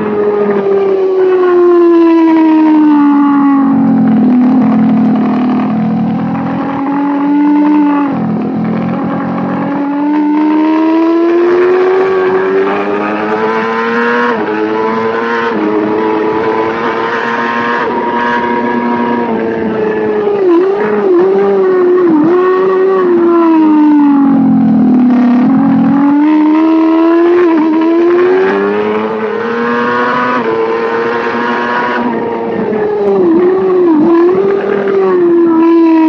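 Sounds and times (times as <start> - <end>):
race motorcycle engine revving: 0.0 - 36.0.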